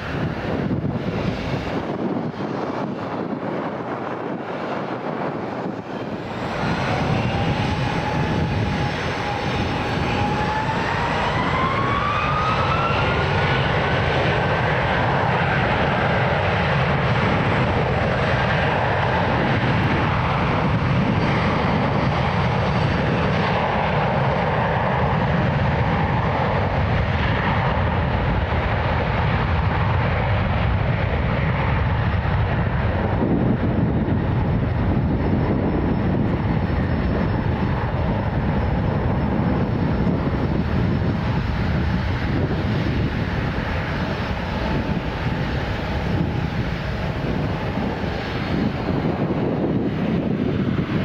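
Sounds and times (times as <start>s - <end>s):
jet engines spooling up: 0.0s - 51.0s.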